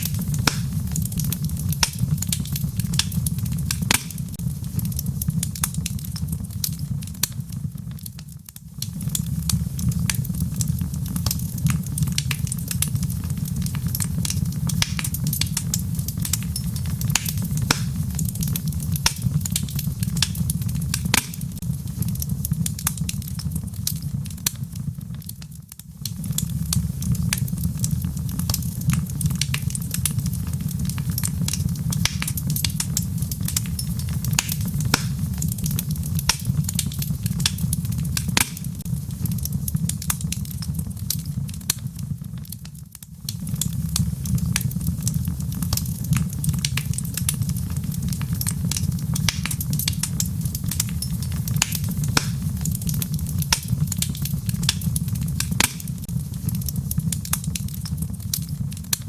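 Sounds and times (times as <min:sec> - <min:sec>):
logs crackling and popping: 0:00.0 - 0:59.0
low roar of flames: 0:00.0 - 0:59.0.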